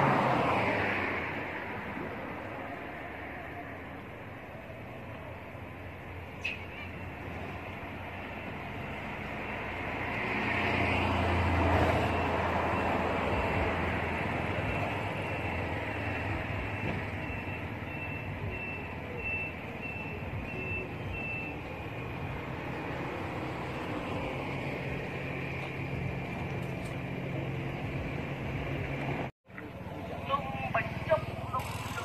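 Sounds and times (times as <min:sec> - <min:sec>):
heavy vehicle engine rumbling: 0:04.0 - 0:32.0.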